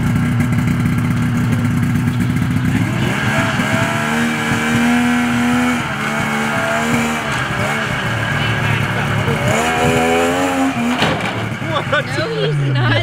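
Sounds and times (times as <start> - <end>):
snowmobile engine revving: 0.0 - 13.0.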